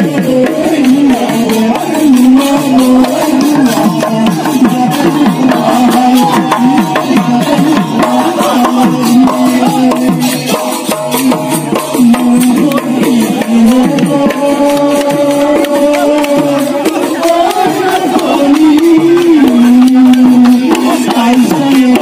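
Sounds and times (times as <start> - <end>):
voices singing: 0.0 - 22.0.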